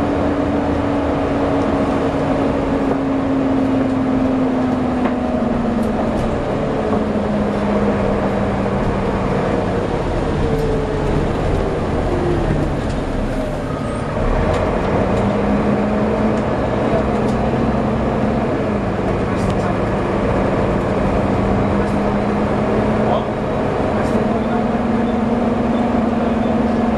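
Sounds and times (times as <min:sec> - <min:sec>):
bus drivetrain whine: 0:00.0 - 0:26.9
bus engine rumble: 0:00.0 - 0:26.9.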